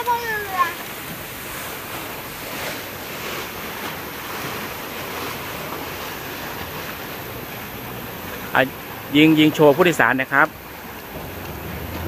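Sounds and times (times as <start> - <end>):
choppy water rushing: 0.0 - 12.0.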